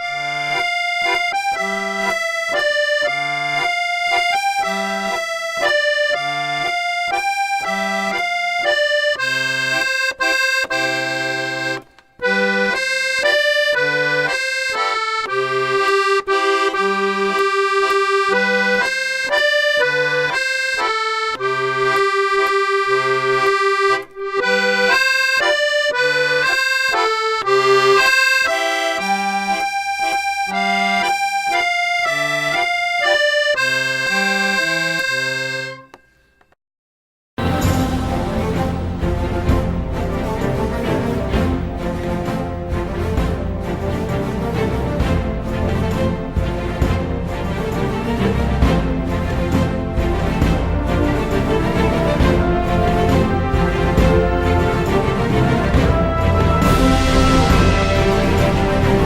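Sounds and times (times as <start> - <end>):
accordion music: 0.0 - 36.5, 37.4 - 59.0.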